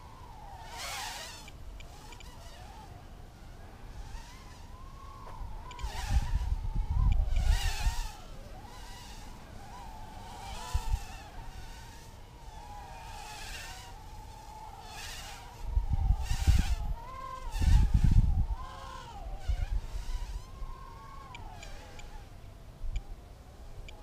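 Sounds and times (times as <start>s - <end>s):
quadcopter motors whining: 0.0s - 24.0s
wind rumble on microphone: 0.0s - 24.0s.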